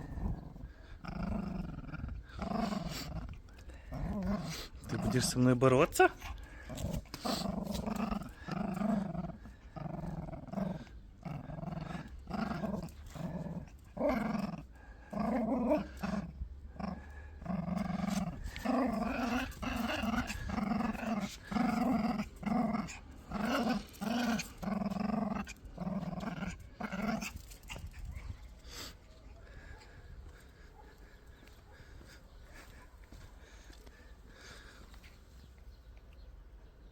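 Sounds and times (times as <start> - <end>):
small dog growling in play: 0.0 - 32.8.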